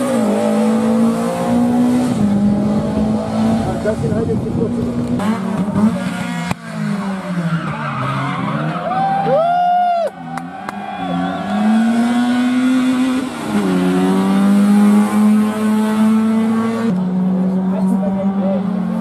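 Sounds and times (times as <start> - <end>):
rally car engine revving: 0.0 - 9.4, 10.1 - 19.0.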